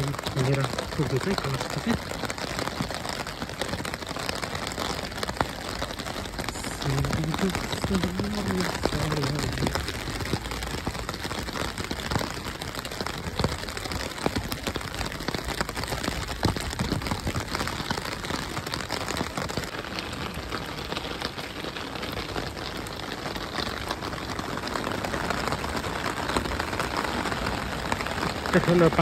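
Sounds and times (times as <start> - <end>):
rain on plastic umbrella: 0.0 - 29.0.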